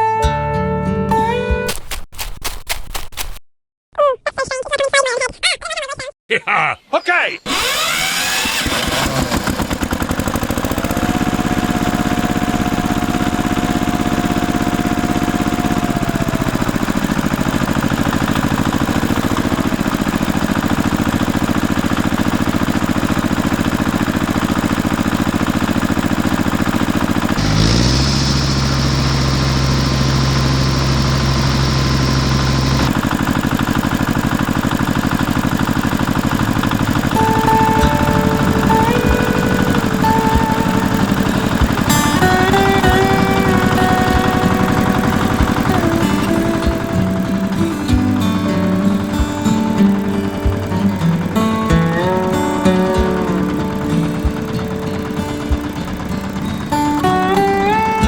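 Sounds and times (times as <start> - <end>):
engine running with fast pulse: 7.5 - 58.0.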